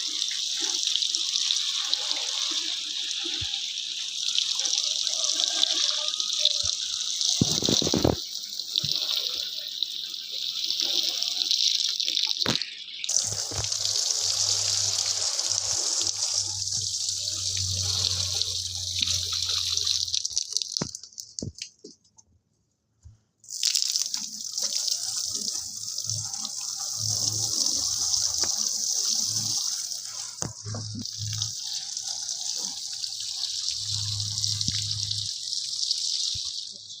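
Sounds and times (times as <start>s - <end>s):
running water hissing: 0.0s - 21.6s, 23.5s - 37.0s.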